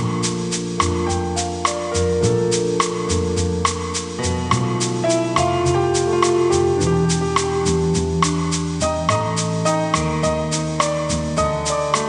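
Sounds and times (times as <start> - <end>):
keyboard playing jazz chords: 0.0 - 12.0.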